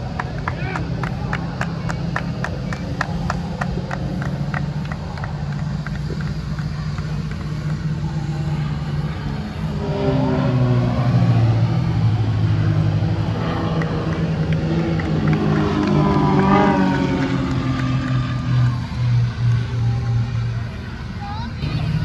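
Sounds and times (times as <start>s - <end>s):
propeller planes droning overhead: 0.0s - 22.0s.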